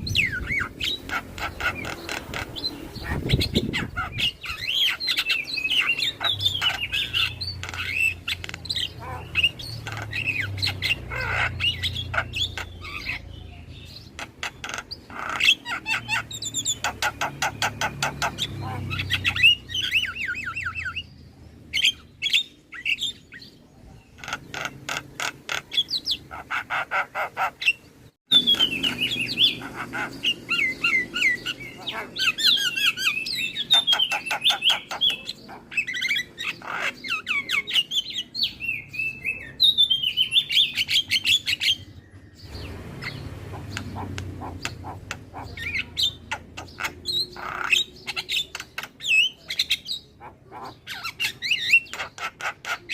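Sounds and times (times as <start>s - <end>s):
bird singing trills and whistles: 0.0s - 23.6s, 24.2s - 52.9s.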